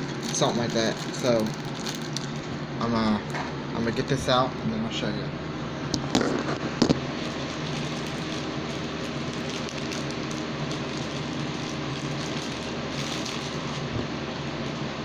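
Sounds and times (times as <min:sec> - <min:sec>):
steady hum with hiss: 0:00.0 - 0:15.0.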